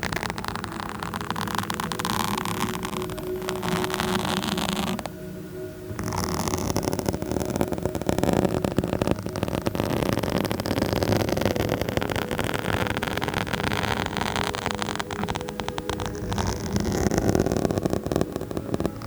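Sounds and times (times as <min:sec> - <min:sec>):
fingernails scratching microphone: 0:00.0 - 0:05.2, 0:05.9 - 0:19.0.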